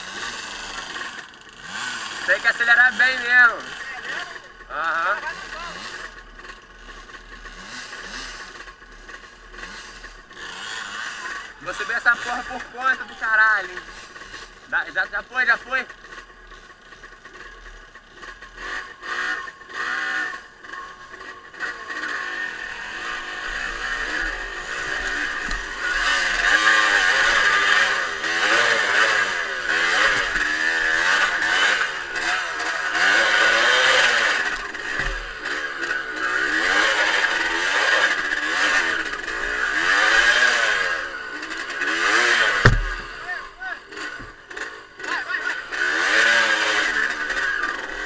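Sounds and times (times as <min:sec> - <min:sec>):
motorcycle engine revving hard: 0:00.0 - 0:48.0.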